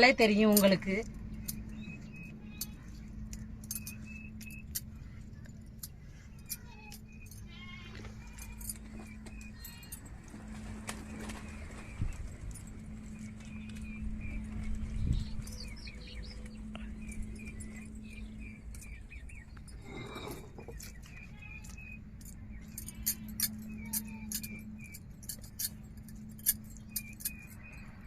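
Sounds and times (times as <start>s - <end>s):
steady low hum: 0.0s - 28.0s
bird chirping: 1.2s - 10.0s, 11.1s - 28.0s.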